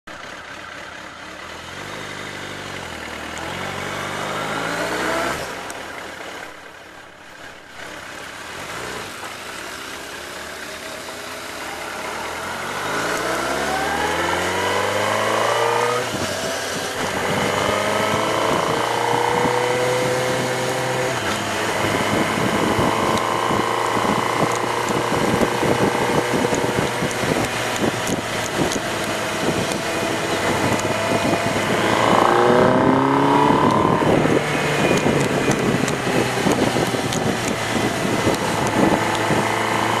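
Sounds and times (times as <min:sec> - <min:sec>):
motorcycle engine accelerating: 0:00.1 - 0:06.6, 0:07.5 - 0:40.0.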